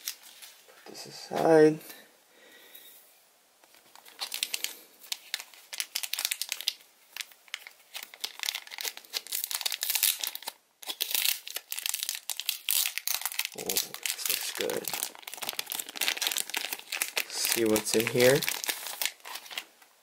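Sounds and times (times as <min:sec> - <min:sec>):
plastic bags crinkling: 0:03.7 - 0:19.9.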